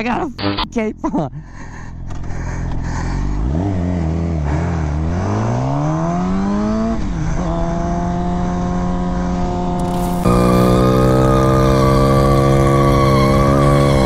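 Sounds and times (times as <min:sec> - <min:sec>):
motorcycle engine accelerating: 0:01.9 - 0:14.0.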